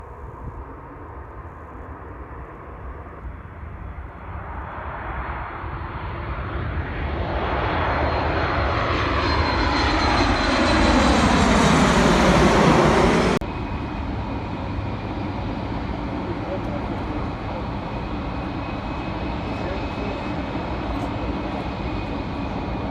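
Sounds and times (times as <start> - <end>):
jet engines rumbling with whine: 0.0 - 22.9.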